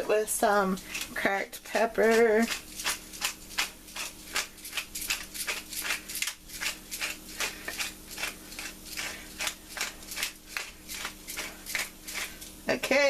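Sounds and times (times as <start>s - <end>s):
pepper grinder crunching: 0.7s - 12.7s.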